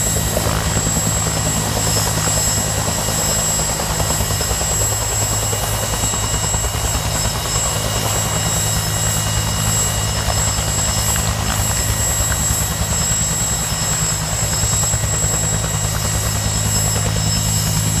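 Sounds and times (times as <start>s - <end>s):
helicopter rotor beat: 0.0s - 18.0s
high turbine whine: 0.0s - 18.0s.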